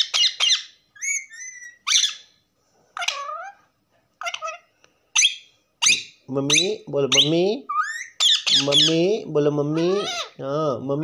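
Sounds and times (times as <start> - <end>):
parakeet squawks and chirps: 0.0 - 10.4.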